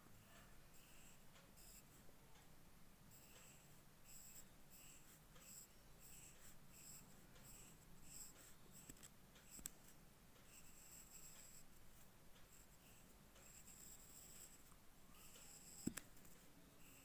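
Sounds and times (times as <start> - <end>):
pencil scratching on paper: 0.2 - 2.0, 3.1 - 17.0.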